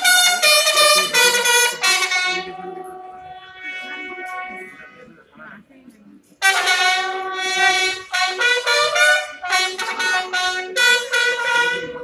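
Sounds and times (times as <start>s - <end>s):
marching band wind instruments: 0.0s - 5.4s, 6.4s - 12.0s.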